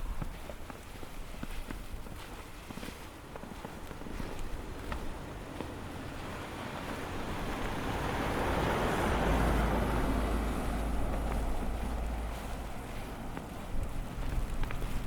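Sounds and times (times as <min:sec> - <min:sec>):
footsteps in snow: 0:00.0 - 0:15.0
wind rumble on microphone: 0:00.0 - 0:15.0.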